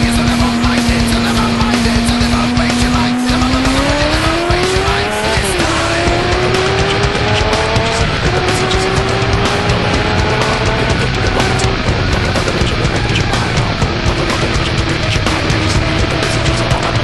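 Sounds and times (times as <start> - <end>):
motorcycle engine accelerating: 0.0 - 17.0
music: 0.0 - 17.0.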